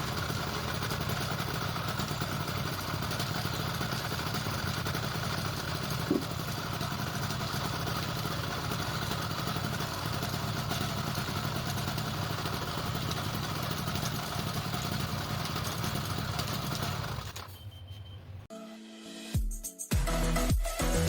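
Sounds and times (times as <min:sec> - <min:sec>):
small engine running: 0:00.0 - 0:17.6.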